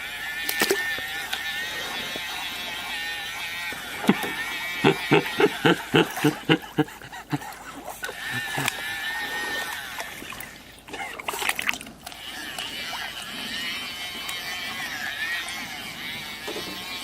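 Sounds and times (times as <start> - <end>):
bubble machine whine: 0.0 - 17.0.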